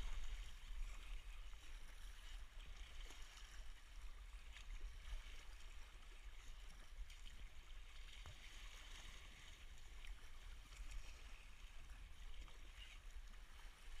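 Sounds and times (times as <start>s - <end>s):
water splashing against kayak hull: 0.0s - 14.0s.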